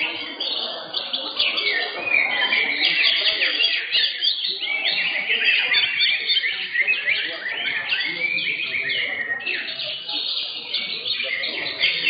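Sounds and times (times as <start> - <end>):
birds singing: 0.0 - 12.0
murmur of voices: 0.0 - 12.0.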